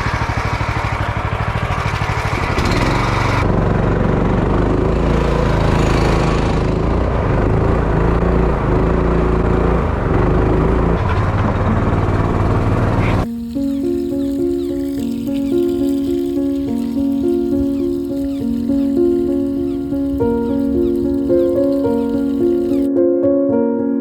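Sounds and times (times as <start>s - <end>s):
outboard motor running: 0.0s - 22.9s.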